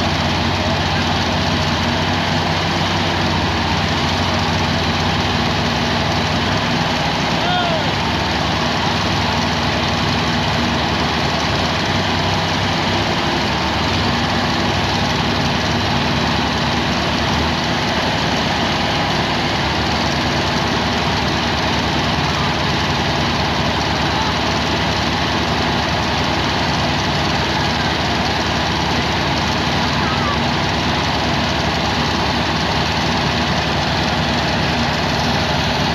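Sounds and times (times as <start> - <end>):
tractor diesel engines running: 0.0 - 35.9.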